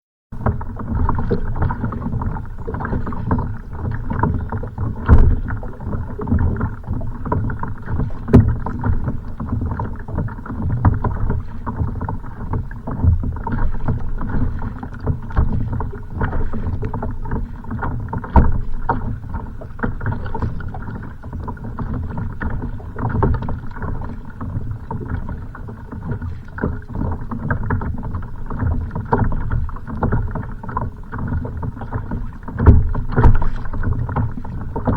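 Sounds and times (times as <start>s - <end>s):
waves slapping against a hull: 0.3s - 34.9s
wind buffeting microphone: 0.4s - 30.0s.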